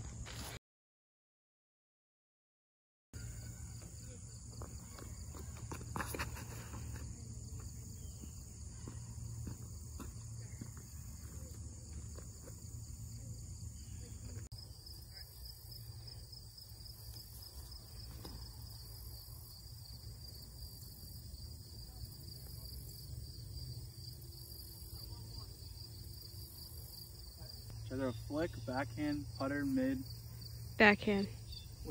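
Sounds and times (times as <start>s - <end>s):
insect chorus drone: 3.2s - 31.9s.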